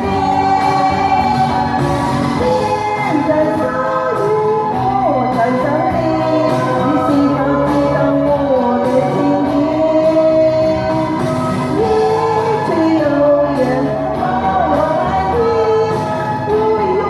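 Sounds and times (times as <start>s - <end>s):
woman singing pop song: 0.0s - 17.0s.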